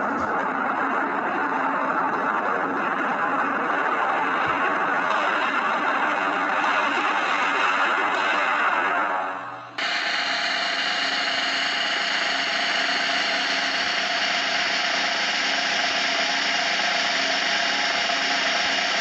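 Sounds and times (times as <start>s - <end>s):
faint hum: 0.0s - 19.0s
machine whirring: 0.0s - 19.0s.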